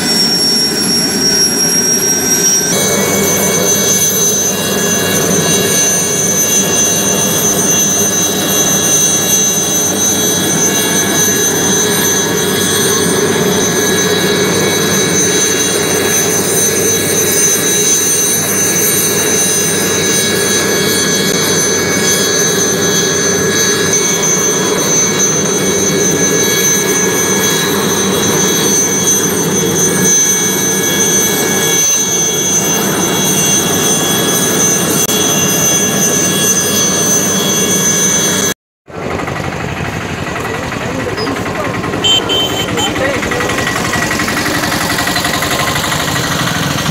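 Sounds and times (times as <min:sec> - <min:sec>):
helicopter turbine whine and roar: 0:00.0 - 0:46.9.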